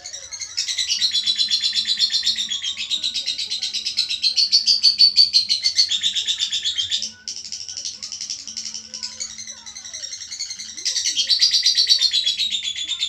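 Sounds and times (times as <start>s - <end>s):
bird chattering high chirps: 0.0s - 13.0s.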